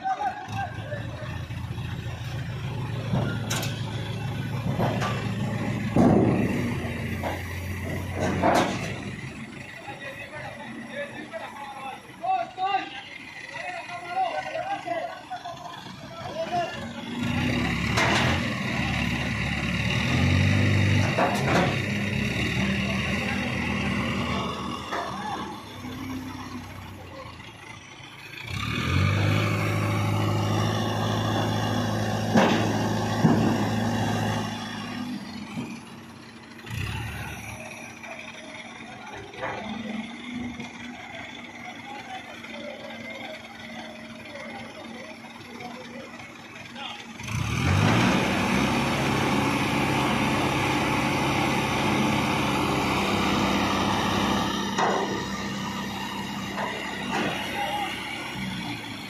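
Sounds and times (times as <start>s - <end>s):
crane diesel engine revving: 0.0s - 59.0s.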